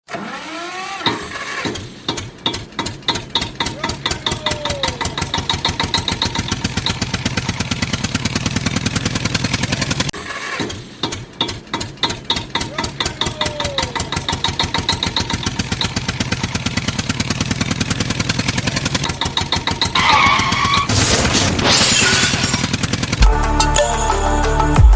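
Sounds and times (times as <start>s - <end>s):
tractor engine starting and chugging: 0.1s - 24.9s.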